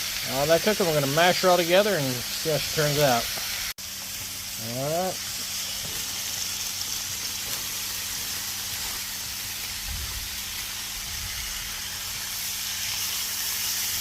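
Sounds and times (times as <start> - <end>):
food sizzling on a griddle: 0.0 - 14.0.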